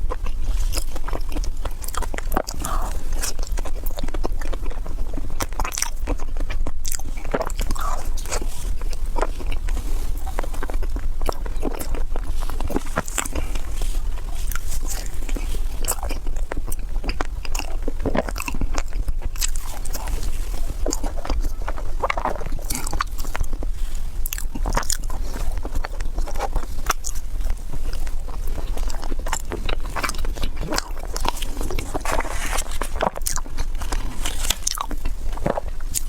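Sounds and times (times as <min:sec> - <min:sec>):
chewing crunchy food: 0:00.0 - 0:36.0.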